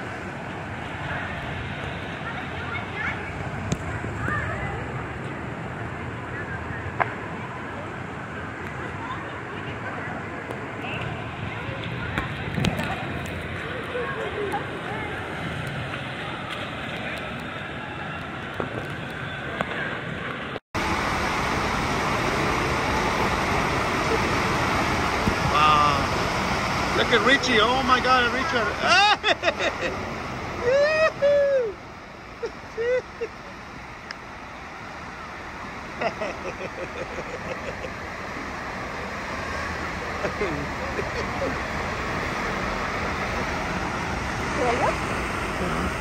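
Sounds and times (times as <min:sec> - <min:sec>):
pool water splashing: 0:00.0 - 0:46.0
water rushing down slides: 0:00.0 - 0:46.0.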